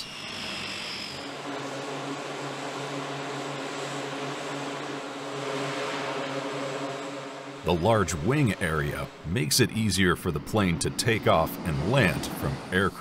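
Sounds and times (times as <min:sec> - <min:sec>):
turboprop engines running: 0:00.0 - 0:13.0.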